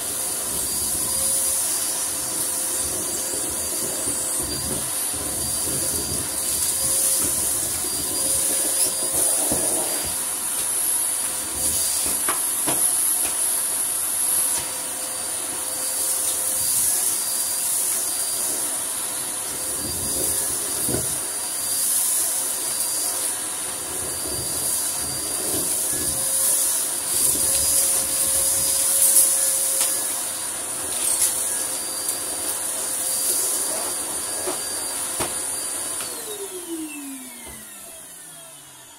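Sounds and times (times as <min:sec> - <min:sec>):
vacuum cleaner whining: 0:00.0 - 0:38.9.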